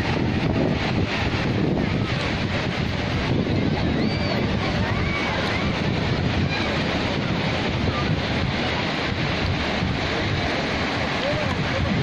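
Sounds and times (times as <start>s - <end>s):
sea waves breaking on beach: 0.0s - 12.0s
wind rumbling on microphone: 0.0s - 12.0s.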